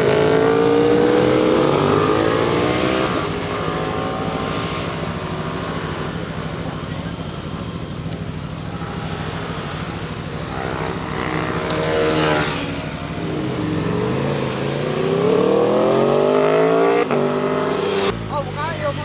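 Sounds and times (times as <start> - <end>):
motorcycle accelerating hard: 0.0 - 19.0
motorcycles riding past: 0.0 - 19.0.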